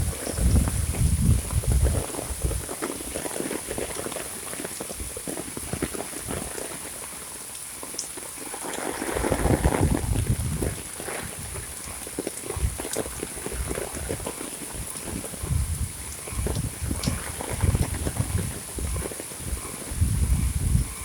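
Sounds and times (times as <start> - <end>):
heavy rain splashing: 0.0 - 21.0.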